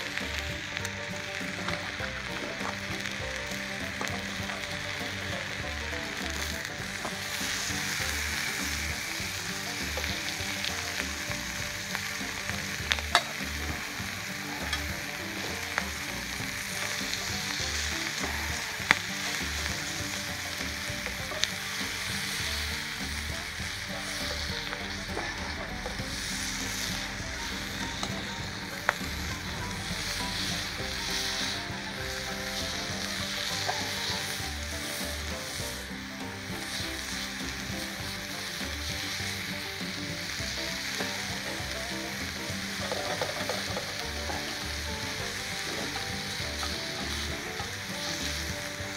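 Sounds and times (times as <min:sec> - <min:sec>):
food sizzling on a griddle: 0:00.0 - 0:48.9.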